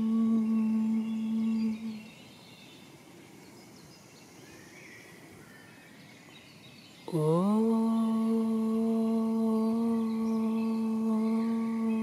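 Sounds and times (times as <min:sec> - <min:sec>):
bird chirps: 0:00.0 - 0:07.3, 0:09.6 - 0:12.0.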